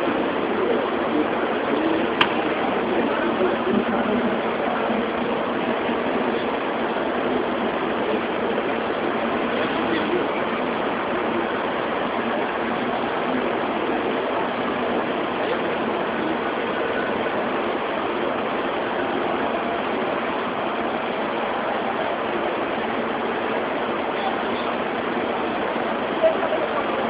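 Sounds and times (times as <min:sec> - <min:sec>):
indistinct crowd noise: 0:00.0 - 0:27.0.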